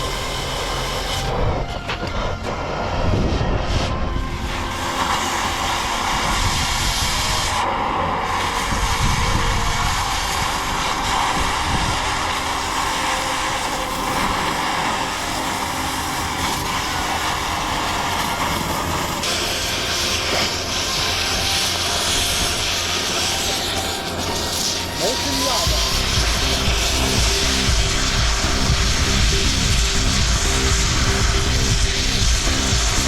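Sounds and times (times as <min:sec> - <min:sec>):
blowtorch hissing: 0:00.0 - 0:33.0.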